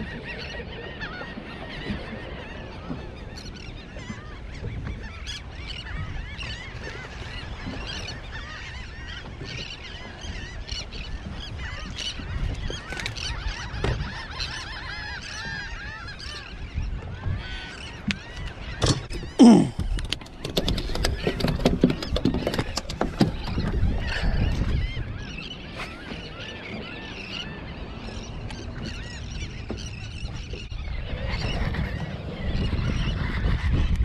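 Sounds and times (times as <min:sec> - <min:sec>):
flock of birds calling: 0:00.0 - 0:34.0.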